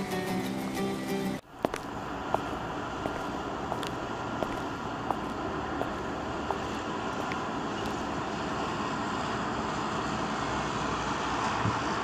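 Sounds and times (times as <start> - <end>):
steady rushing noise: 1.4 - 12.0.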